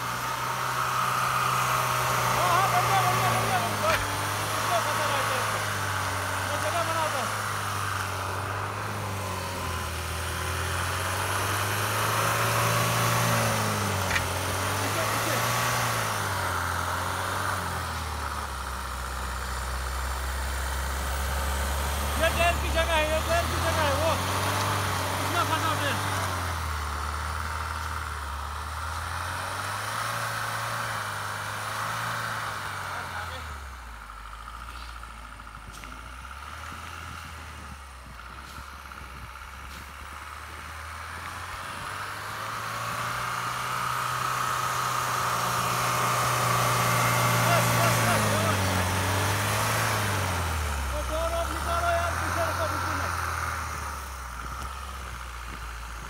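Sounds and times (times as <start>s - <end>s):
diesel engine running at low revs: 0.0s - 56.0s.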